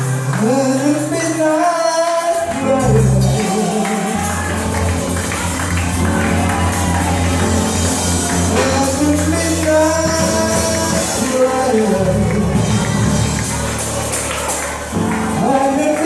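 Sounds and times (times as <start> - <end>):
person singing: 0.0 - 13.8, 14.9 - 16.0
keyboard chords: 0.0 - 16.0.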